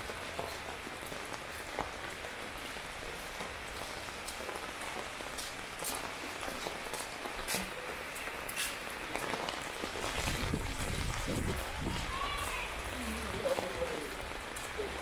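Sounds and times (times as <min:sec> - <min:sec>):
heavy rain hissing: 0:00.0 - 0:15.0
raindrops tapping surfaces: 0:00.0 - 0:15.0.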